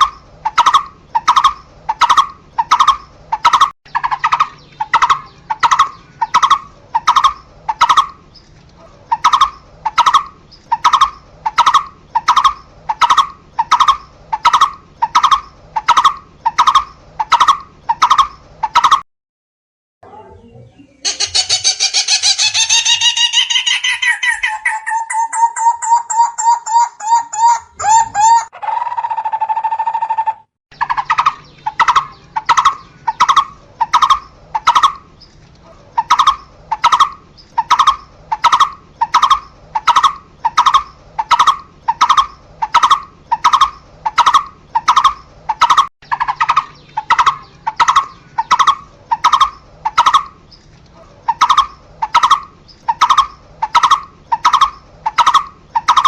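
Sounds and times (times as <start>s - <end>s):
bird calling: 0.0s - 19.0s, 20.1s - 56.0s.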